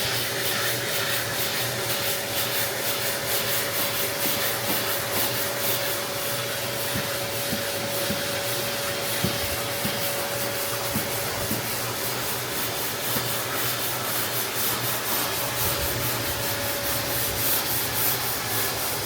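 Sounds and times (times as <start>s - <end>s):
sandpaper rasping over filler: 0.0s - 19.0s
steady hum: 2.0s - 19.0s.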